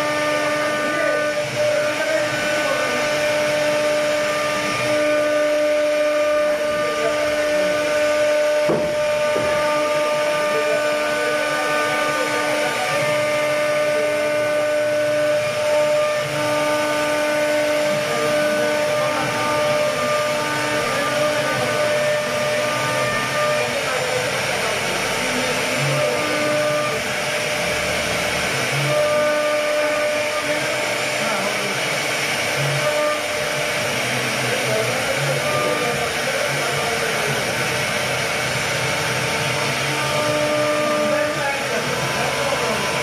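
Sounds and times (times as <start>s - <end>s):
router spindle whining: 0.0s - 43.0s.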